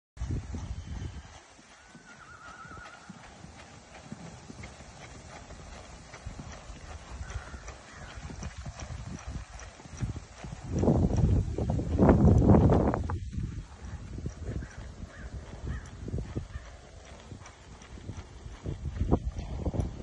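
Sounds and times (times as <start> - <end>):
hoofbeats on sand: 0.2 - 20.0.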